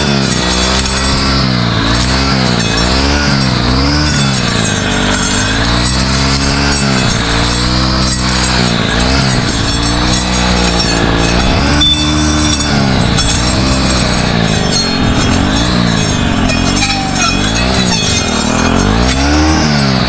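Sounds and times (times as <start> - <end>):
brush cutter engine revving: 0.0 - 20.0.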